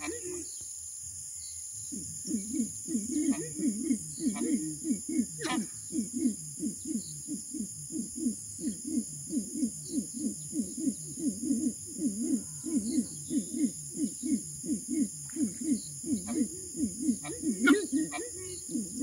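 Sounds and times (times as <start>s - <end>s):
bird calling low notes: 0.0s - 0.5s, 1.8s - 19.0s
insects trilling: 0.0s - 19.0s.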